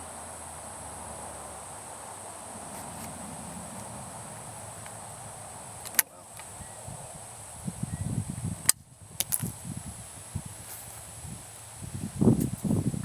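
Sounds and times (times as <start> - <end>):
crickets chirping chorus: 0.0 - 13.0.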